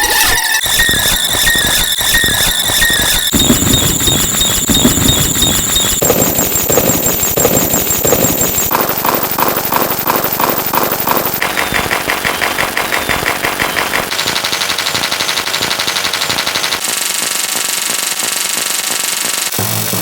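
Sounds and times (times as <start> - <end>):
rapid electronic beeps: 0.0 - 20.0.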